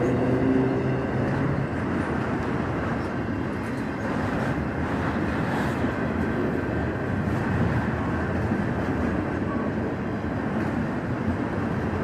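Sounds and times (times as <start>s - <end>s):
steel wheels running on rails: 0.0s - 12.0s.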